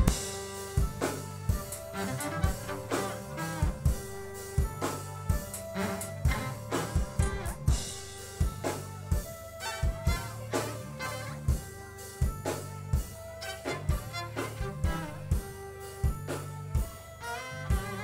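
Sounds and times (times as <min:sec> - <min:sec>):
bass guitar line: 0:00.0 - 0:18.0
drum kit beat: 0:00.0 - 0:18.0
live band playing instrumental: 0:00.0 - 0:18.0.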